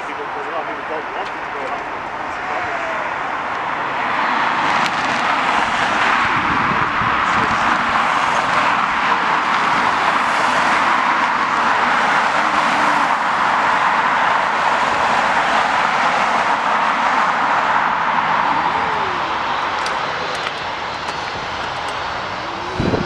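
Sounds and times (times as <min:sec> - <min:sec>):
jet airliner engines rushing: 0:00.0 - 0:23.0.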